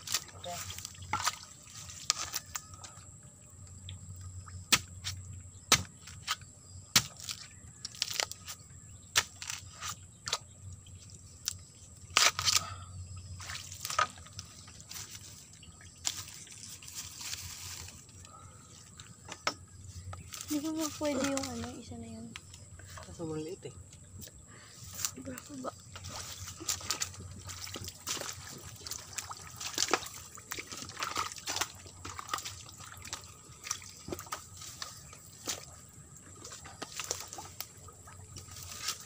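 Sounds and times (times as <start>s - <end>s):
dry bamboo leaves crackling: 0.0s - 3.0s, 7.0s - 8.6s, 9.2s - 10.4s, 11.0s - 12.8s, 13.4s - 18.9s, 19.9s - 23.7s, 24.6s - 39.0s.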